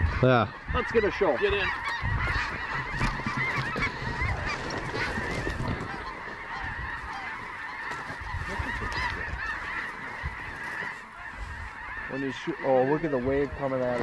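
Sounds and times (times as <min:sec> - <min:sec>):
flock of geese honking: 0:00.0 - 0:14.0.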